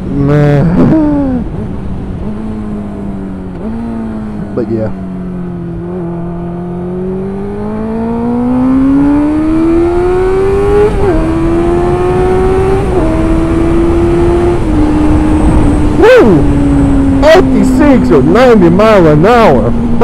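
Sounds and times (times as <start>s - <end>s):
motorcycle engine accelerating hard: 0.0s - 20.0s.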